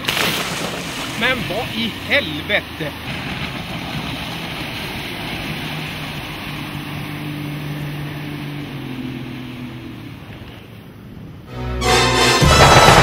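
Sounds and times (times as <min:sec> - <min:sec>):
motorboat engine running: 0:00.0 - 0:11.3
water rushing past boat: 0:00.0 - 0:13.0.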